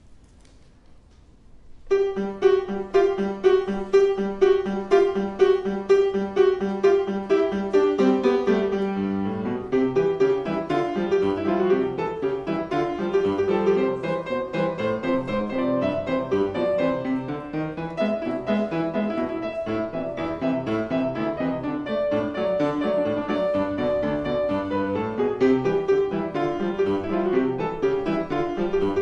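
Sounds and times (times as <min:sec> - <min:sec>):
grand piano playing: 0:01.6 - 0:29.0.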